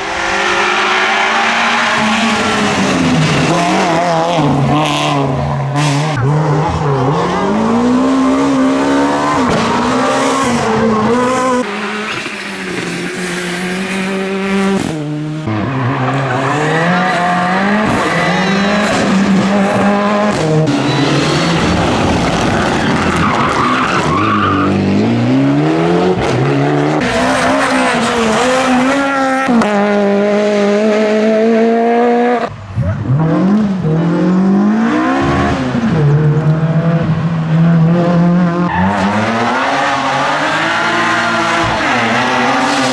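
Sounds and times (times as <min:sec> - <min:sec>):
rally car engines revving: 0:00.0 - 0:42.9.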